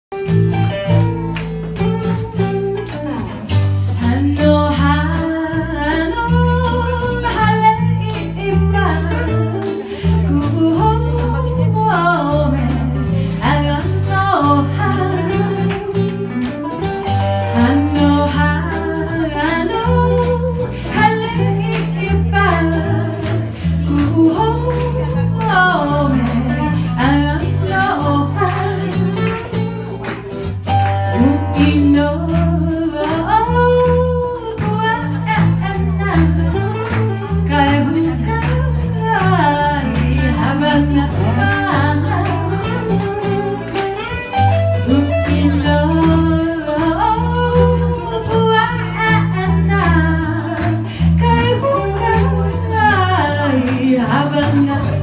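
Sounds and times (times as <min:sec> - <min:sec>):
acoustic guitar: 0:00.1 - 0:55.0
amplified guitar: 0:00.1 - 0:55.0
women singing: 0:04.0 - 0:16.2, 0:17.5 - 0:29.6, 0:31.1 - 0:36.8, 0:37.4 - 0:43.6, 0:44.8 - 0:55.0.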